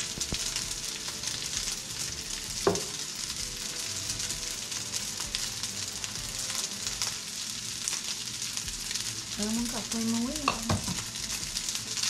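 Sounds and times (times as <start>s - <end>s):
rice sizzling in oil: 0.0s - 12.0s.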